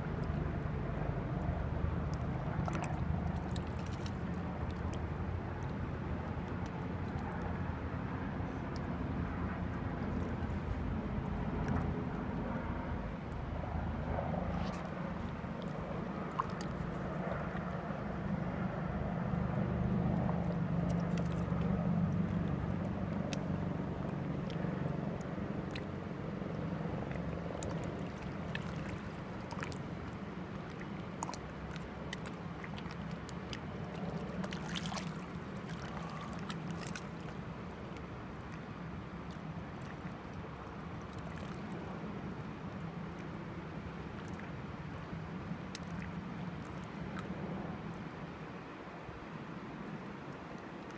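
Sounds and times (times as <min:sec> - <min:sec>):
distant engine drone: 0:00.0 - 0:50.9.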